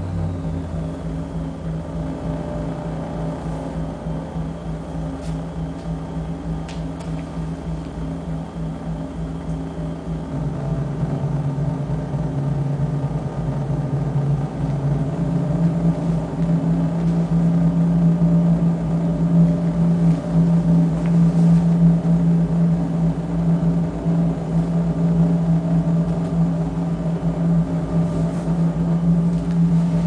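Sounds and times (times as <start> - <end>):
fast low flutter: 0.0 - 30.0
low electronic drone: 0.0 - 30.0.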